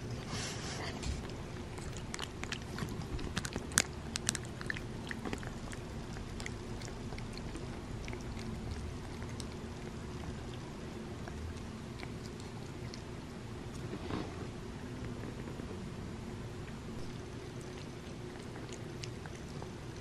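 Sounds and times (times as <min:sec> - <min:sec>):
cat licking and chewing: 0:00.0 - 0:20.0.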